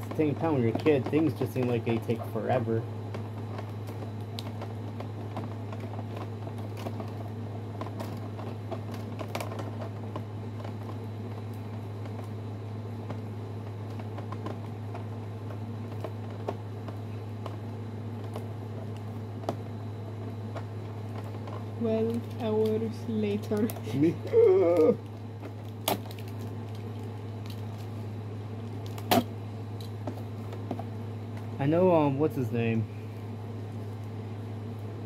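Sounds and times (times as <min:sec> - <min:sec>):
low hum: 0:00.0 - 0:35.0
plastic packaging clicks and rustles: 0:00.1 - 0:31.6.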